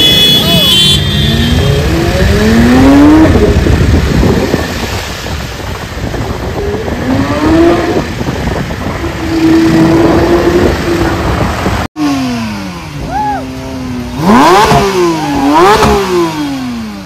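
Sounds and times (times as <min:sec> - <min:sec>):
street traffic noise: 0:00.0 - 0:17.0
sports car accelerating: 0:01.4 - 0:05.2, 0:06.1 - 0:17.0.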